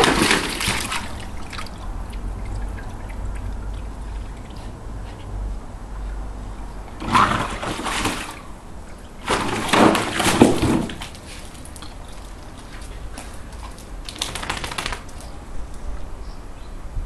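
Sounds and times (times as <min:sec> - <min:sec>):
dog splashing water in a pool: 0:00.0 - 0:05.5, 0:06.9 - 0:15.4.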